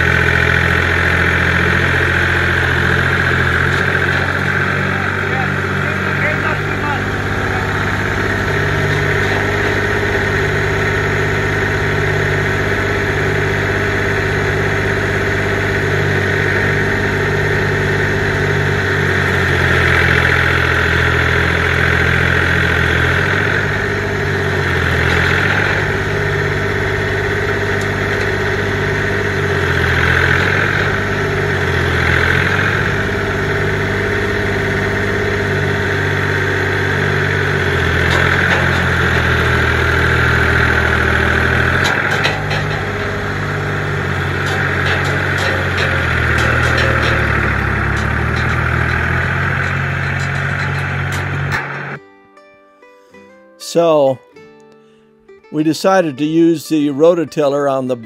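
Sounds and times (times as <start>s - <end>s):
tractor diesel engine running: 0.0s - 52.0s, 55.6s - 58.0s.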